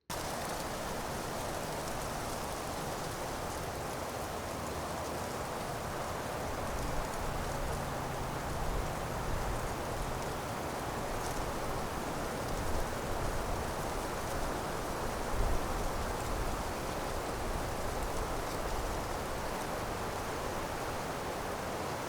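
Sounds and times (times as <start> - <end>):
outdoor ambient hiss: 0.1 - 22.0.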